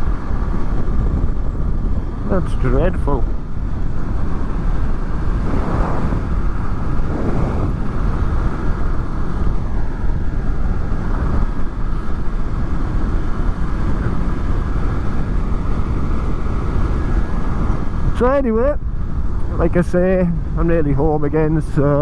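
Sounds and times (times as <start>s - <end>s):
motorcycle engine running: 0.0s - 18.2s
wind rush and road noise: 0.0s - 22.0s.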